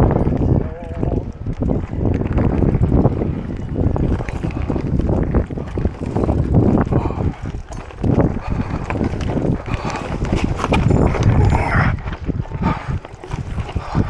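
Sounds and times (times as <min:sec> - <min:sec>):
bike riding on gravel: 0:00.0 - 0:14.0
wind buffeting microphone: 0:00.0 - 0:14.0.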